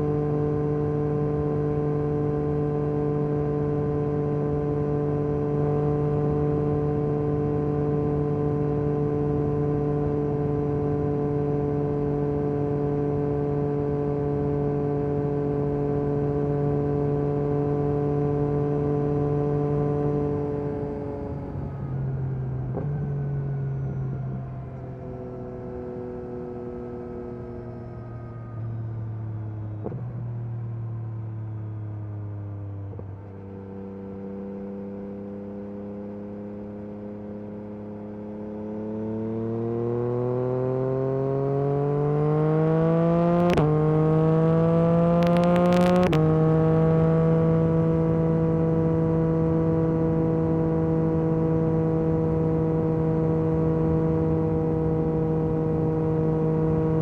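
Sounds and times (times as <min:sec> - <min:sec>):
motorcycle engine accelerating: 0:00.0 - 0:31.0, 0:31.6 - 0:57.0.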